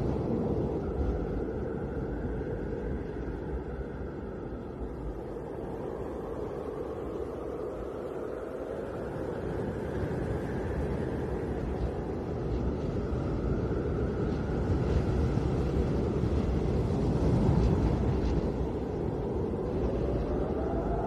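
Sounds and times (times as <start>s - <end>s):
wind with deep low rumble: 0.0s - 21.0s.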